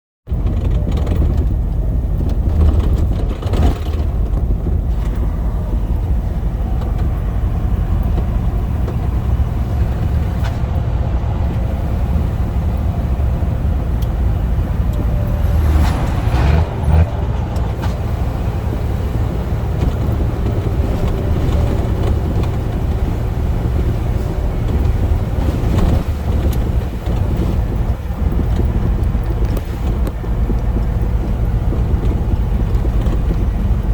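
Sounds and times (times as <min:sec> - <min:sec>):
road noise: 0:00.2 - 0:33.9
truck diesel engine drone: 0:00.3 - 0:33.9.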